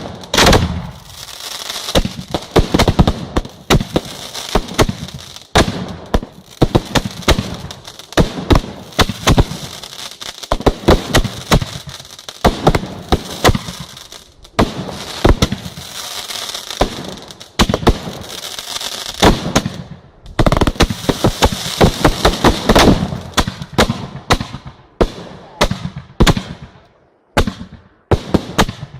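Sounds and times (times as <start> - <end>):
fireworks crackling: 0.0 - 26.7.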